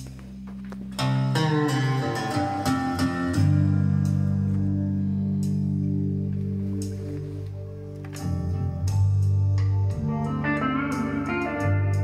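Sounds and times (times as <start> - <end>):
guitar music over loudspeakers: 0.0 - 12.0.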